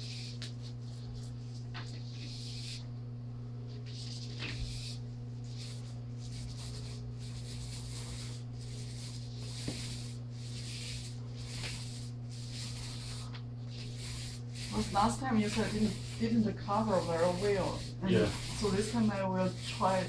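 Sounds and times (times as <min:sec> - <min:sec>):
paint roller swishing on wall: 0:00.0 - 0:02.9, 0:03.7 - 0:20.0
steady low hum: 0:00.0 - 0:20.0.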